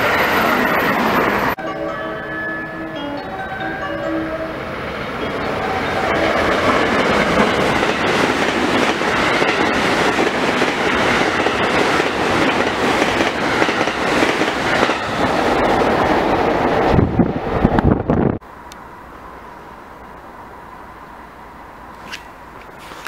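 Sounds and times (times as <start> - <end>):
train passing at high speed: 0.0 - 23.0.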